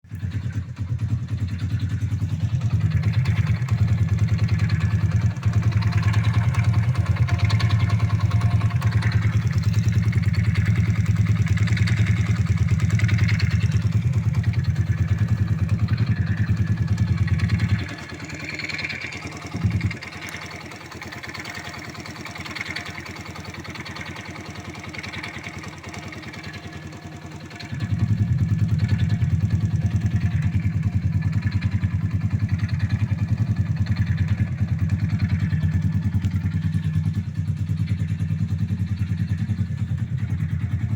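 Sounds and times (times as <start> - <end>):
moped engine idling: 0.0 - 40.9
engine whistling and rustling: 0.1 - 40.9.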